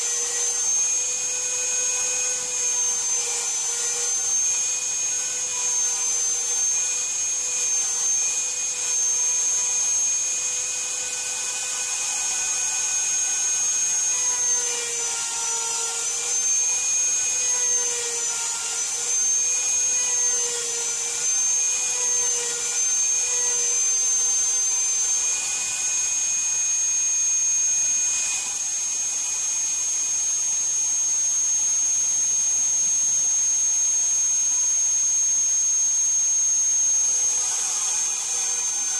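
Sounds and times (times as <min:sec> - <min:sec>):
cnc router high-pitched whine: 0:00.0 - 0:38.9.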